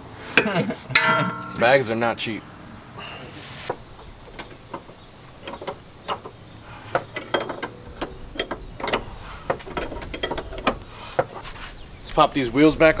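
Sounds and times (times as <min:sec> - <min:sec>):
hand tools clicking on metal: 0:00.3 - 0:12.5.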